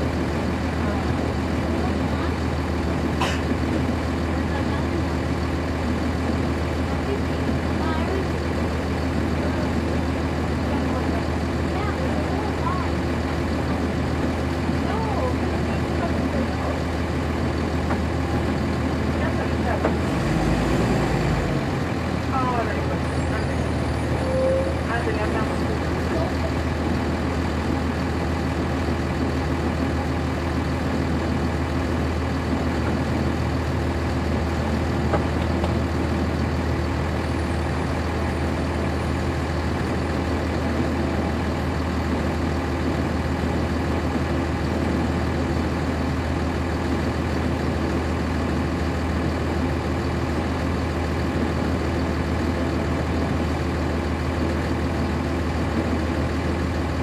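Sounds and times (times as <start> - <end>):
bus diesel engine humming: 0.0 - 57.0.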